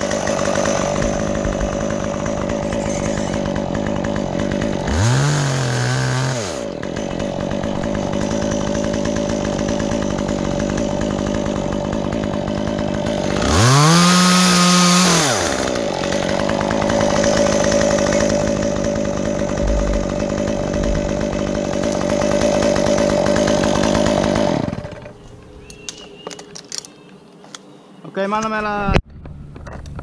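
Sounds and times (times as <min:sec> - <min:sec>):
chainsaw revving: 0:00.0 - 0:25.2.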